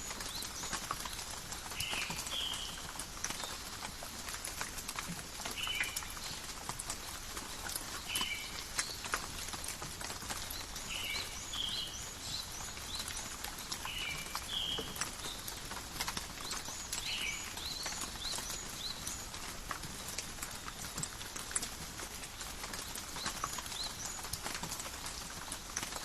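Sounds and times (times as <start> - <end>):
rain pattering on leaves: 0.0 - 26.0.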